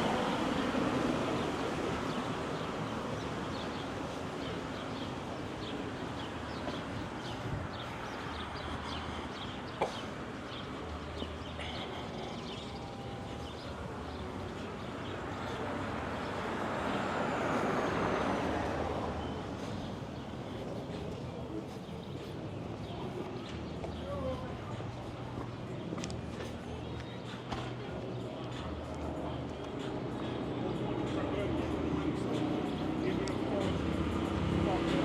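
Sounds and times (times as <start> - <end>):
distant traffic rumble: 0.0 - 35.0.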